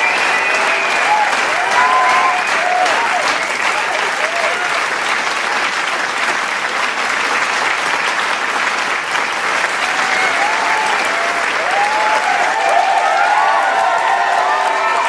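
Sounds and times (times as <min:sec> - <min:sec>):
crowd applauding: 0:00.0 - 0:15.0
crowd cheering: 0:00.0 - 0:15.0.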